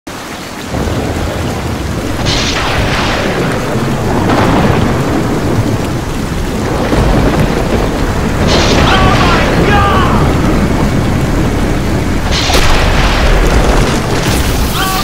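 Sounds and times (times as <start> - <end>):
heavy rain: 0.1 - 15.0
rolling thunder: 0.6 - 15.0.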